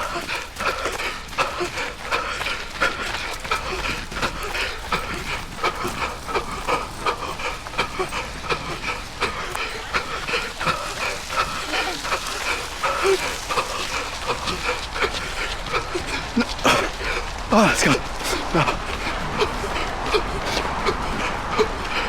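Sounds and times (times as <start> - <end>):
runner wheezing breathing: 0.0 - 22.0
running footfalls: 0.0 - 22.0.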